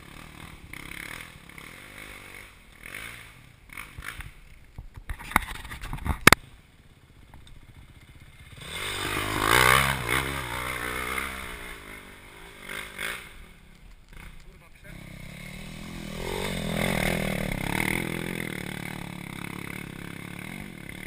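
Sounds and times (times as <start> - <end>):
dirt bike engine revving: 0.0 - 4.6, 7.1 - 21.0.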